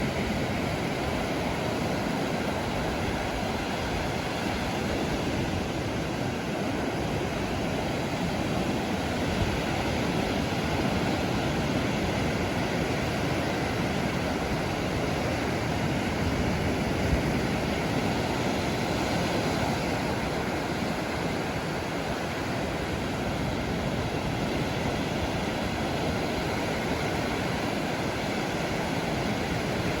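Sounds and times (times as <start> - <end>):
surf breaking on shore: 0.0 - 30.0.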